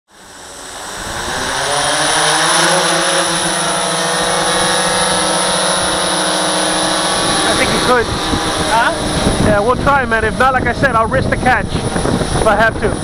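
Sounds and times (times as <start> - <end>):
drone motors whining and humming: 0.1 - 13.0.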